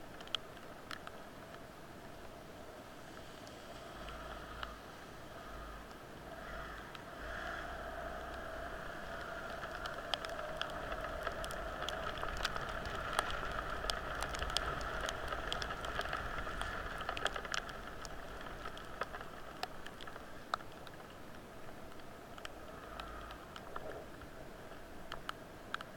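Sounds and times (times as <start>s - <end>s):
raindrops ticking nearby: 0.0s - 25.9s
steady rain hiss: 0.0s - 25.9s.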